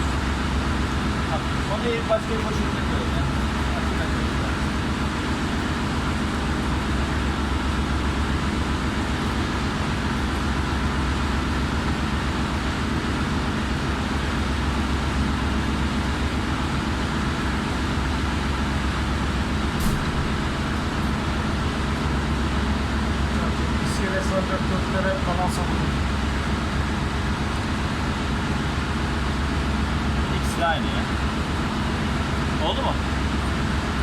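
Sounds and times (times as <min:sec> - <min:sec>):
engine-room machinery drone: 0:00.0 - 0:34.0.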